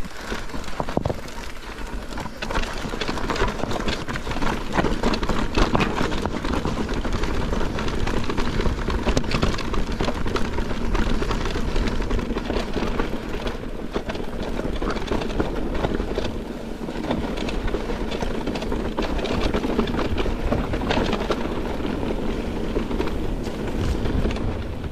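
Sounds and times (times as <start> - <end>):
bike rattling and clicking: 0.0 - 24.9
tyres rumbling over rocks: 0.0 - 24.9.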